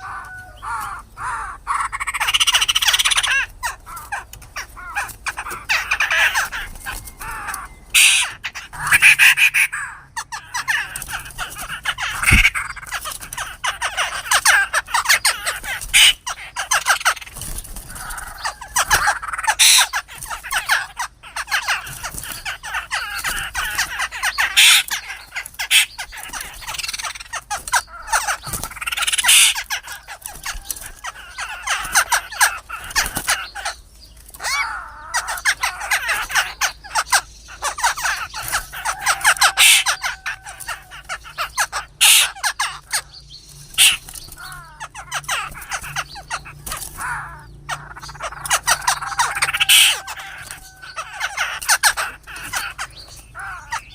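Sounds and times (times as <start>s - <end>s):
birds squawking and chattering: 0.0s - 53.9s.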